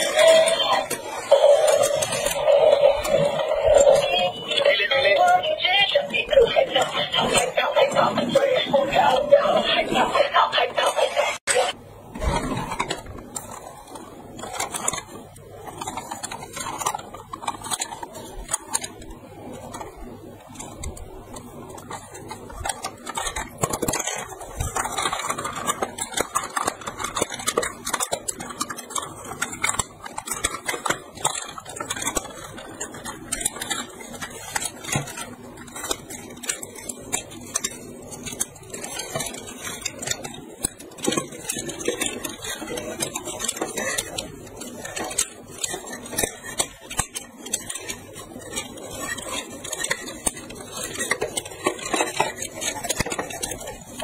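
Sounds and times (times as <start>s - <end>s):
plastic toy parts clicking: 0.0s - 11.7s, 12.4s - 54.0s.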